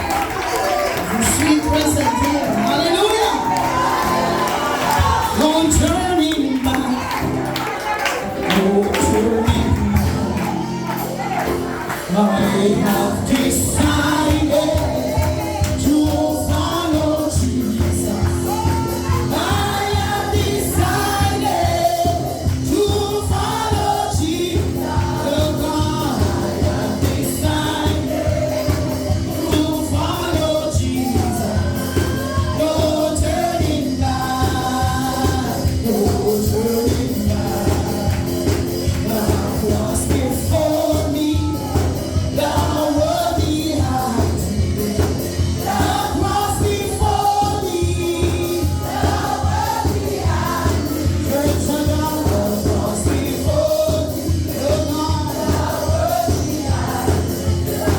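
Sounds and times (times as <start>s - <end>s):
steady drum beat: 1.0s - 7.6s, 8.2s - 57.9s
choir singing: 3.2s - 5.4s, 6.6s - 57.9s.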